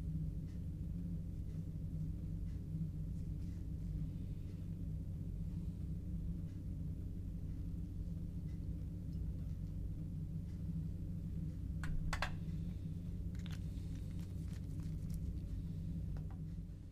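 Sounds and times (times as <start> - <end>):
low room hum: 0.0 - 16.9.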